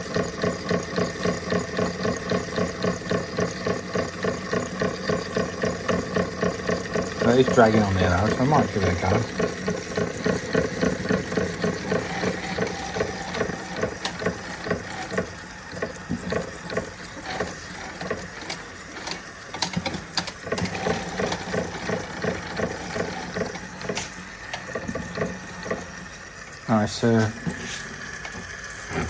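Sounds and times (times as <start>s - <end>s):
model steam engine beating: 0.0s - 26.0s.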